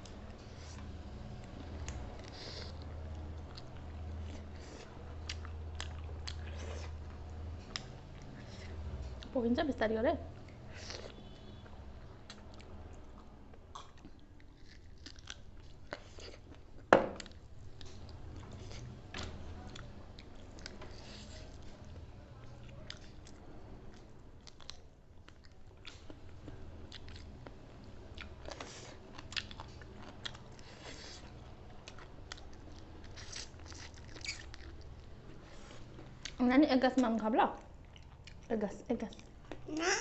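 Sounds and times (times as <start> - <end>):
chewing and biting food: 1.5 - 9.3, 12.3 - 19.0, 19.6 - 36.4, 37.6 - 38.5.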